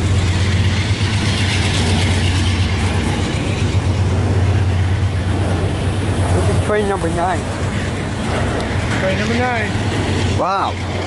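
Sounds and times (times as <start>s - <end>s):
freight train rumbling past: 0.0s - 11.0s
train wheels on rails: 0.0s - 11.0s.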